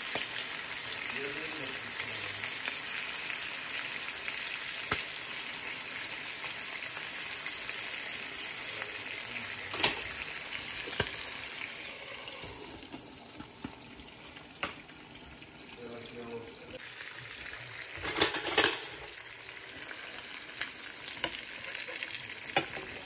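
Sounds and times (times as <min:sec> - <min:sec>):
fish sizzling in a pan: 0:00.0 - 0:23.0.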